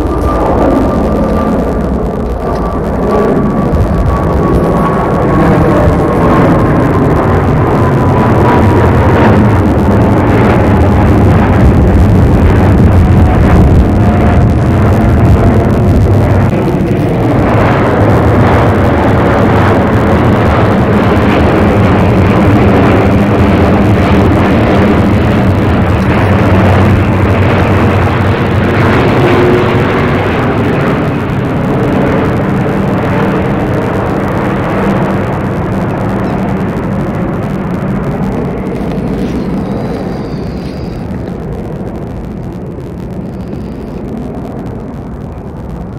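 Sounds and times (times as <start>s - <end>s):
jet engine roar: 0.0s - 45.9s.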